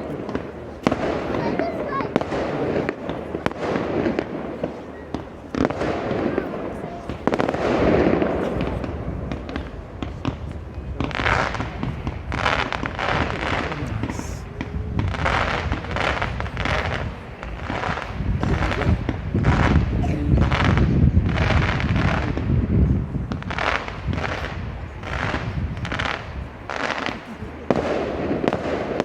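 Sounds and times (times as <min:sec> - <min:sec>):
deep fireworks booms: 0:00.0 - 0:29.0
fireworks bangs and crackling: 0:00.0 - 0:29.0.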